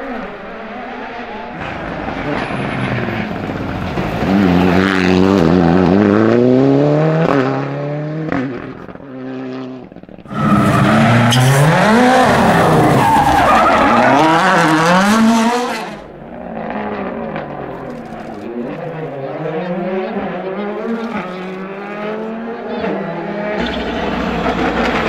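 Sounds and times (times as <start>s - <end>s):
car engine accelerating: 0.0s - 25.0s
rally car engine revving: 0.0s - 25.0s.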